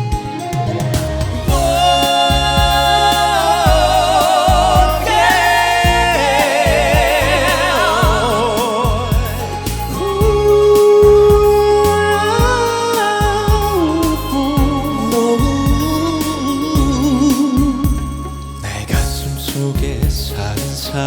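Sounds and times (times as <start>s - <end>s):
slow ballad music: 0.0s - 21.0s.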